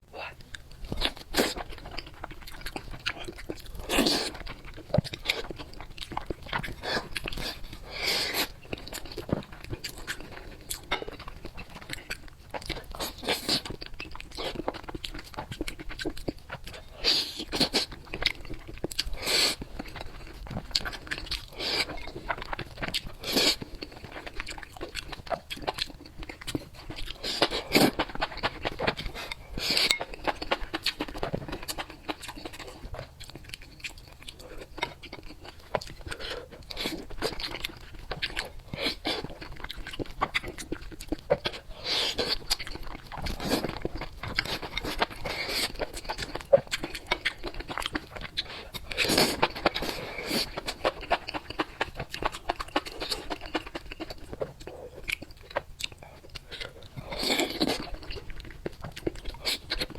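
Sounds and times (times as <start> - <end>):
crunchy food chewing: 0.2 - 59.9.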